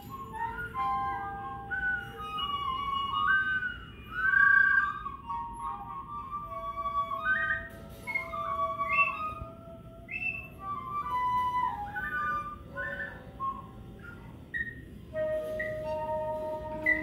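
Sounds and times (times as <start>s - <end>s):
clay flute melody: 0.0s - 17.0s.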